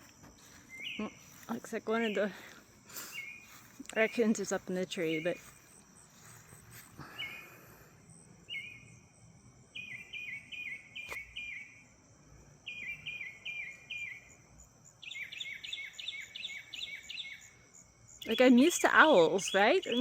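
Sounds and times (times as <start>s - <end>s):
high insect trill: 0.0s - 20.0s.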